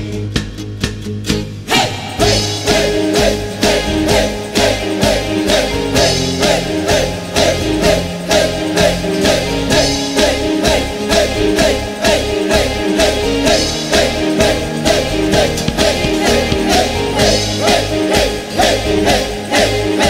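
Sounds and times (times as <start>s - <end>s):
guitar: 0.0s - 20.0s
steady drum beat: 1.6s - 12.8s, 13.5s - 20.0s.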